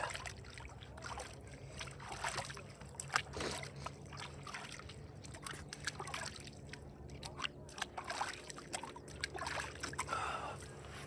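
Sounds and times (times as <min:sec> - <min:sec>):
hands sloshing in shallow water: 0:00.0 - 0:11.0
low steady hum: 0:00.0 - 0:11.0.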